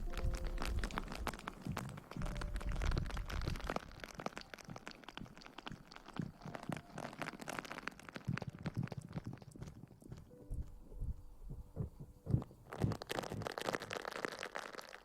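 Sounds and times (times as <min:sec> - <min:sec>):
soft crackling and rustling: 0:00.0 - 0:15.0.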